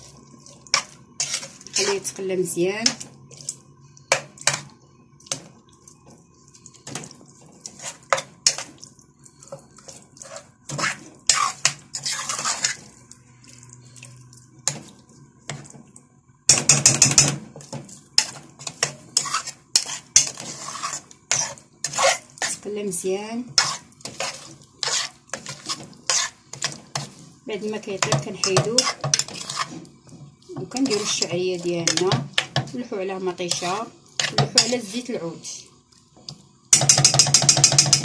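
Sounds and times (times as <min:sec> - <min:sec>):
stirring in metal pot: 0:00.0 - 0:15.9, 0:16.5 - 0:38.0.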